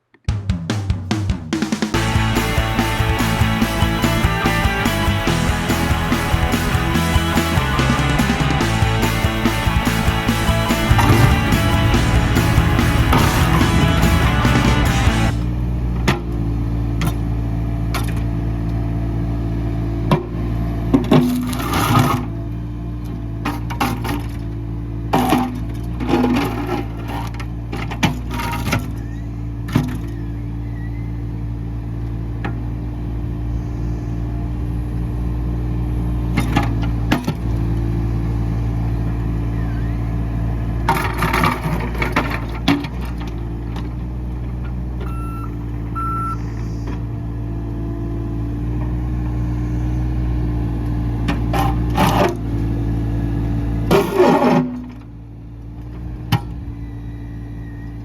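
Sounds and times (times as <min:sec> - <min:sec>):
diesel engine running under load: 0:02.0 - 0:58.0.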